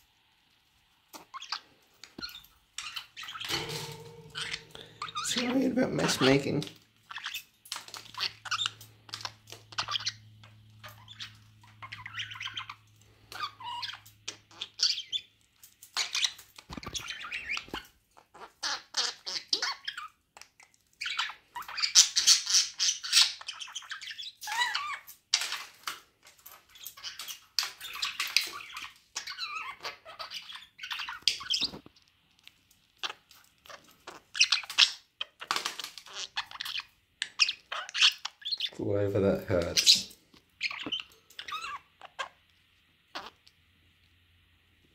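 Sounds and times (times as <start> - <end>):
budgerigars chirping and chattering: 1.1 - 20.2, 21.0 - 25.7, 26.5 - 31.9, 32.9 - 42.4, 43.1 - 43.4.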